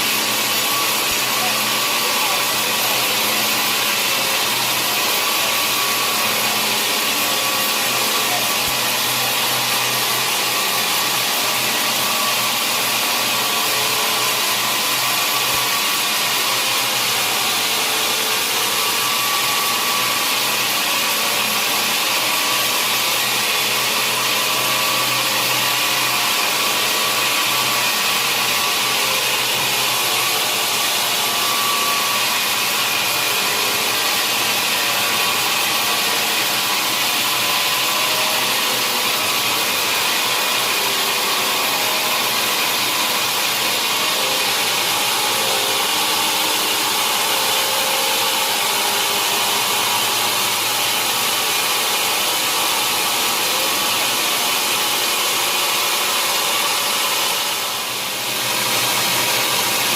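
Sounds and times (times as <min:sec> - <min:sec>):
sawmill machinery sawing log: 0:00.0 - 0:59.9.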